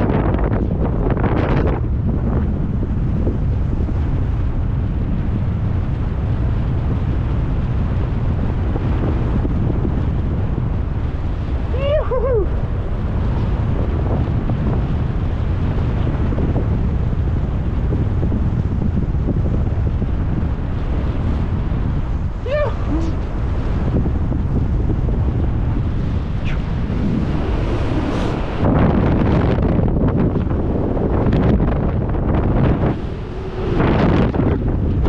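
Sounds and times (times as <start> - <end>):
wind rush on microphone: 0.0 - 35.0.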